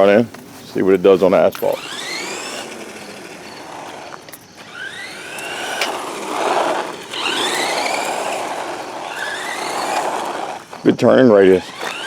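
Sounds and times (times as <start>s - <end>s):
tyre noise on asphalt: 0.0s - 12.0s
electric motor whining: 0.8s - 12.0s.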